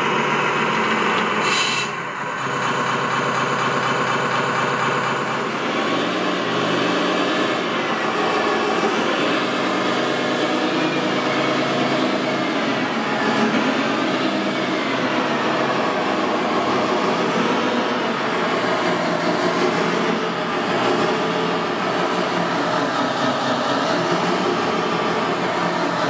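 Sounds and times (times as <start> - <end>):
electric motors and hydraulic pump whirring: 0.0 - 26.0.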